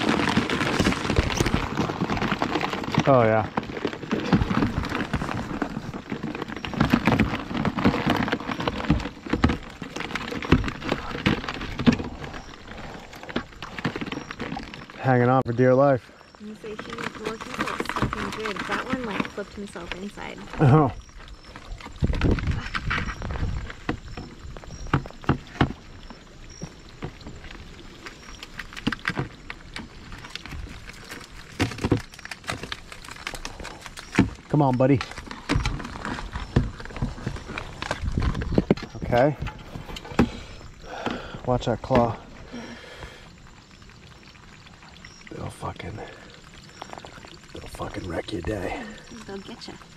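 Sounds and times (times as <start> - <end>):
crabs scrabbling against plastic: 0.0 - 49.9
water dripping and spattering: 0.0 - 49.9.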